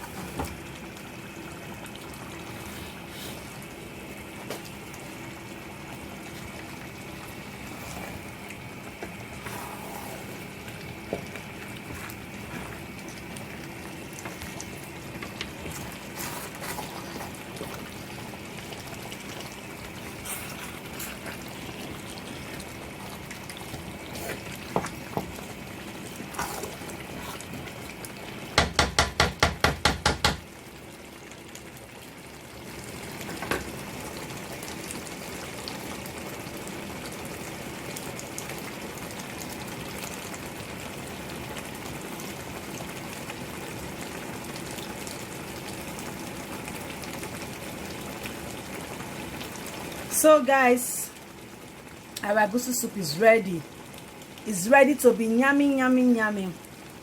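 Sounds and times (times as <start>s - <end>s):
soup simmering with bubbling hiss: 0.0s - 57.0s.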